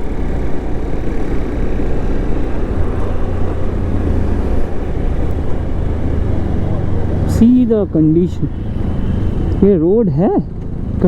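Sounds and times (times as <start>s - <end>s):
motorcycle engine: 0.0s - 11.0s
wind and road noise: 0.0s - 11.0s.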